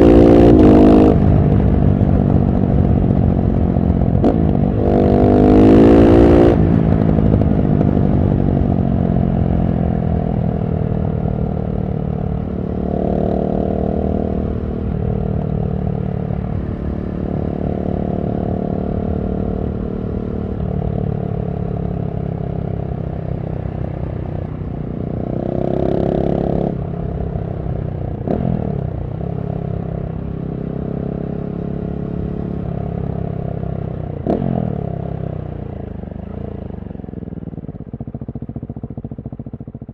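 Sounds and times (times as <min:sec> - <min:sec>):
motorcycle engine revving: 0:00.0 - 0:22.9, 0:24.4 - 0:39.9.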